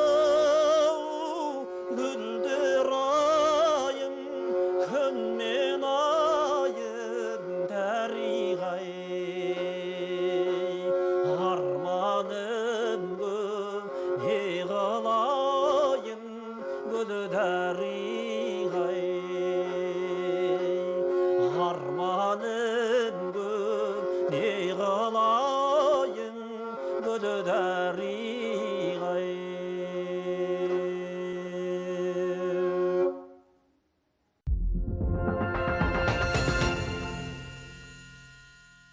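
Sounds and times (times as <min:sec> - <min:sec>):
bowed string instrument melody: 0:00.0 - 0:33.4, 0:34.5 - 0:38.5.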